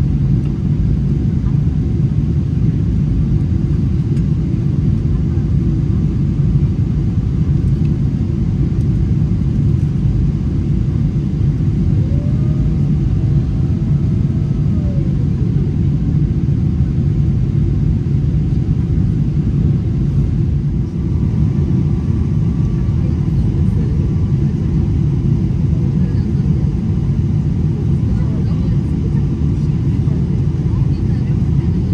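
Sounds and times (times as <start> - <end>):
airplane cabin rumble: 0.0 - 31.9.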